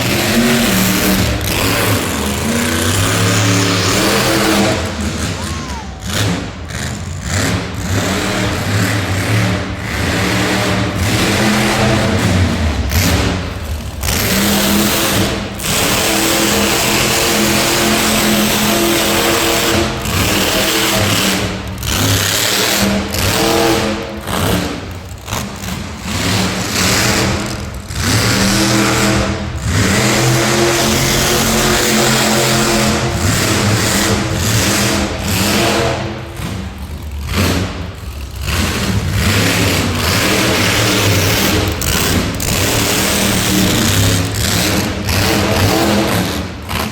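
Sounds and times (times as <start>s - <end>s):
monster truck engine revving: 0.0s - 46.9s.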